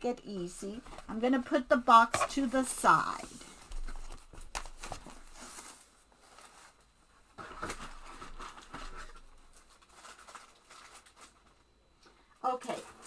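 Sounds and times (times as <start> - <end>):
packaging rustling and crinkling: 0.8 - 11.7.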